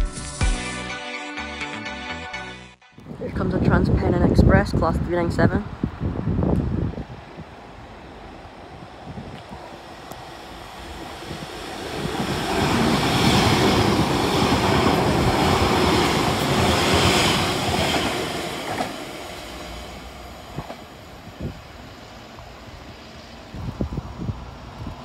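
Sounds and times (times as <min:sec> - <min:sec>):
electric train passing: 0:04.9 - 0:25.0.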